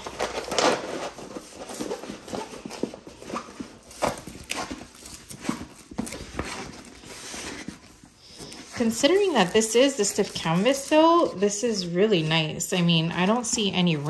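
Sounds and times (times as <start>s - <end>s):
plastic film crinkling: 0.0s - 14.0s.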